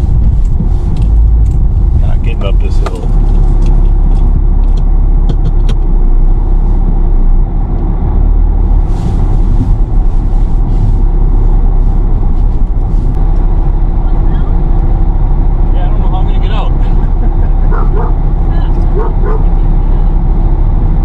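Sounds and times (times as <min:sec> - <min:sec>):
car engine running hard: 0:00.0 - 0:21.0.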